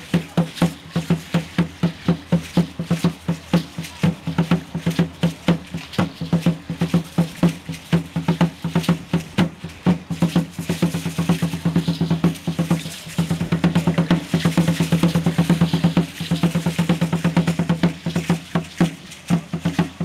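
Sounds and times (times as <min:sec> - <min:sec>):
drum beaten in fast rhythm: 0:00.0 - 0:20.0.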